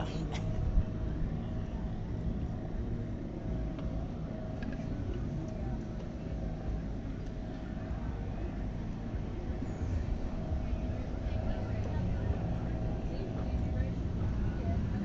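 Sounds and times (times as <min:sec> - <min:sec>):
faint hum: 0:00.0 - 0:15.0
low rumble: 0:00.0 - 0:15.0.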